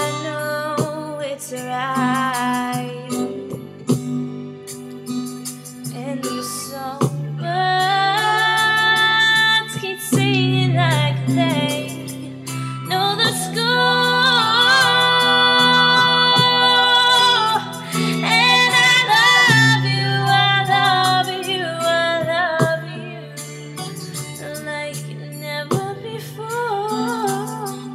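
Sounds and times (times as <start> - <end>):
woman singing a slow ballad: 0.0 - 3.8, 5.8 - 27.9.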